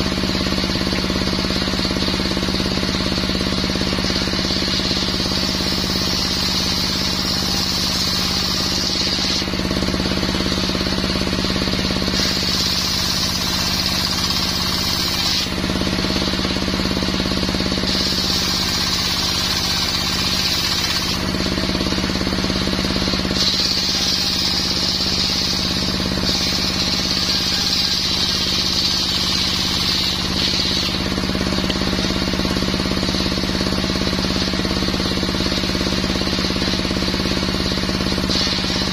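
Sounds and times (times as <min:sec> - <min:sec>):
circular saw bench drone: 0:00.0 - 0:38.9
saw blade whining through wood: 0:00.0 - 0:38.9.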